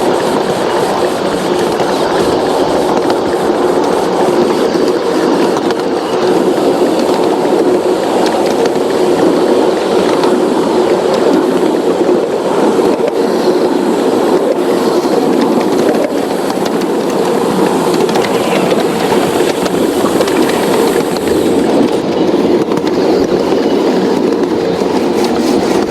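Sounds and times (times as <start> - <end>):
model train rumbling on track: 0.0 - 25.9.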